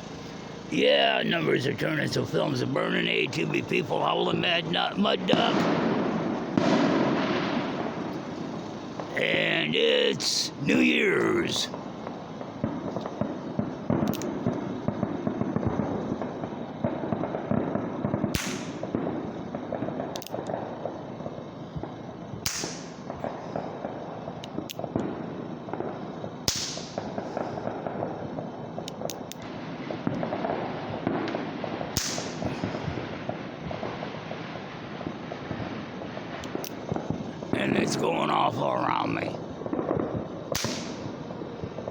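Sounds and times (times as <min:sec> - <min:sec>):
distant fireworks bangs: 0:00.0 - 0:11.0, 0:11.7 - 0:41.9
steady background noise: 0:00.0 - 0:41.9.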